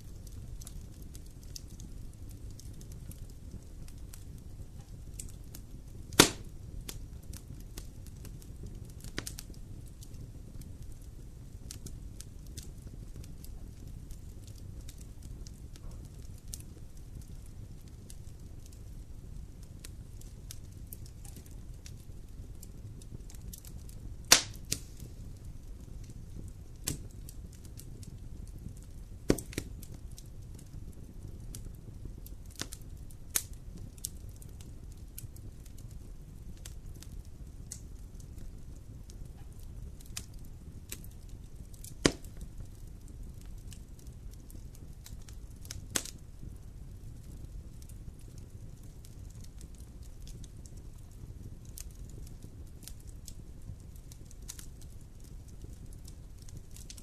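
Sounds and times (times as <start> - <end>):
campfire flame rumble: 0.0 - 57.0
crackling wood: 0.0 - 57.0
loud pops of burning wood: 0.0 - 57.0.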